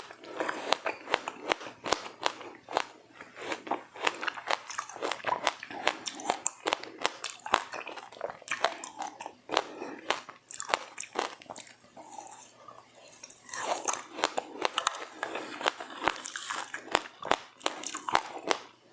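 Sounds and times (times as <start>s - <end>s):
chewing and crunching seeds: 0.0s - 18.9s.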